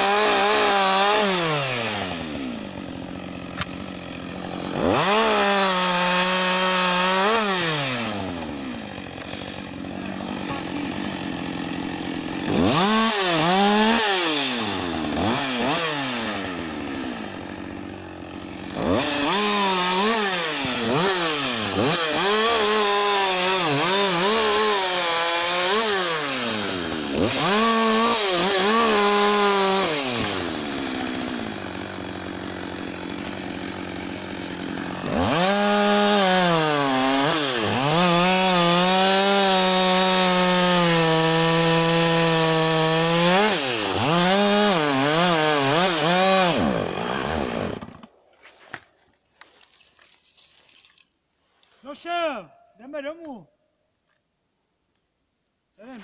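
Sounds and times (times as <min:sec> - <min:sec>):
chainsaw cutting wood: 0:00.0 - 0:52.3.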